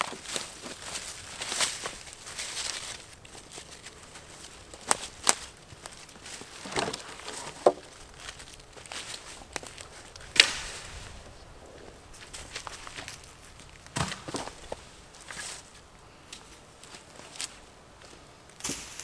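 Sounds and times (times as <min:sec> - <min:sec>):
sticks cracking and knocking: 0:00.0 - 0:17.6
footsteps in dry leaves: 0:00.0 - 0:19.0.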